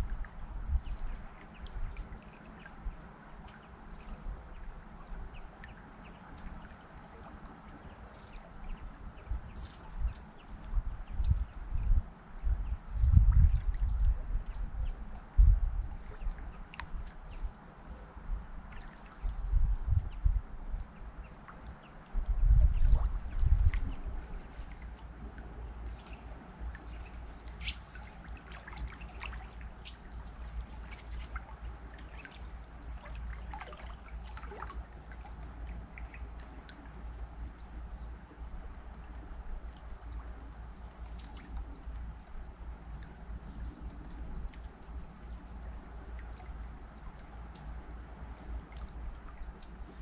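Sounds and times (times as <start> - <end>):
river water wash: 0.0 - 12.4, 13.4 - 50.0
songbirds chirping: 0.0 - 50.0.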